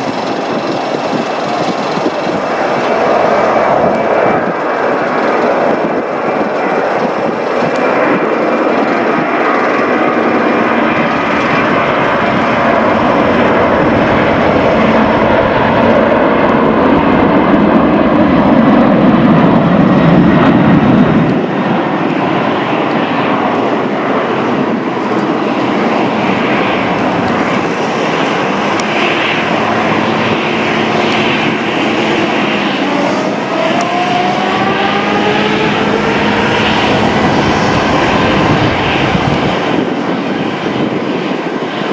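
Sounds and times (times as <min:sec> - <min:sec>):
jet engines roaring: 0:00.0 - 0:41.9
rising whine: 0:00.0 - 0:41.9.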